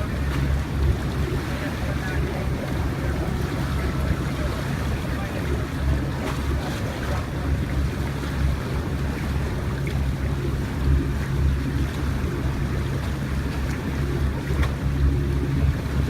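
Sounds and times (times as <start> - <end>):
steady low hum: 0.0 - 16.0
water washing around boat: 0.0 - 16.0.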